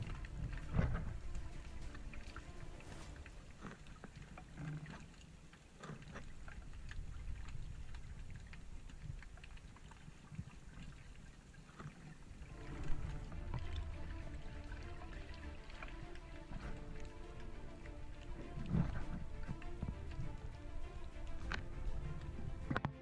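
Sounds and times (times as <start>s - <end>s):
faint music: 0.0s - 11.6s, 12.2s - 23.0s
underwater clicks and crackles: 0.0s - 23.0s
underwater rumble: 0.0s - 23.0s.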